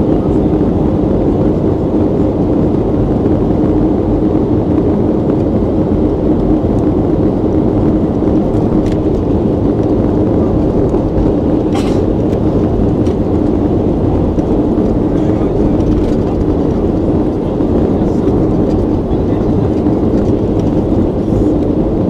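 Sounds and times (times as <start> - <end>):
jet engine and airflow noise: 0.0 - 22.0.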